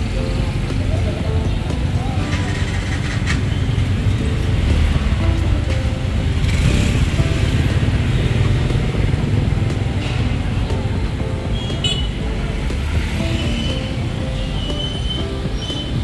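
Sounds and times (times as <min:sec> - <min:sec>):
music playing: 0:00.0 - 0:16.0
passing cars and motorbikes: 0:00.0 - 0:16.0.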